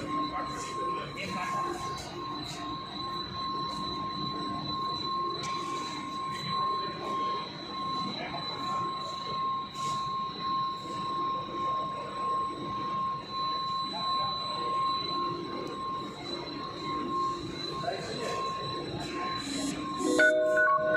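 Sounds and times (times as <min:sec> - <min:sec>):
production line machinery whine: 0:00.0 - 0:20.9.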